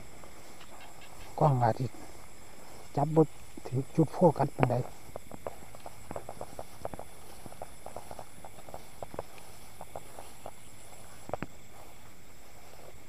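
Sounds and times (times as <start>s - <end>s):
night insects droning: 0.0s - 13.0s.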